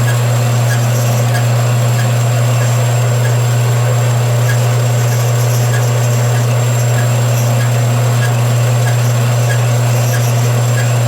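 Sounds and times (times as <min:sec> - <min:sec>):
band saw cutting metal: 0:00.0 - 0:11.0.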